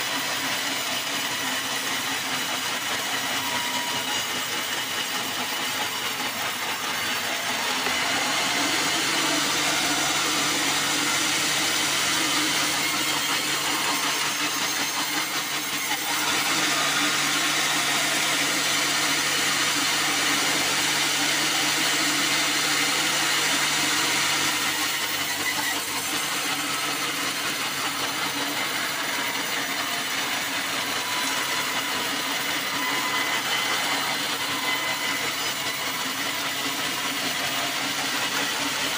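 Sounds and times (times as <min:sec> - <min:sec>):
saw cutting through log: 0:00.0 - 0:38.9
band sawmill hum: 0:01.4 - 0:38.9.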